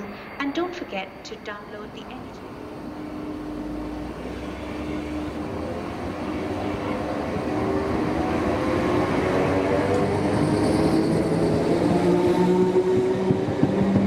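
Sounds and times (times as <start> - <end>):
train hum: 0.0 - 14.0.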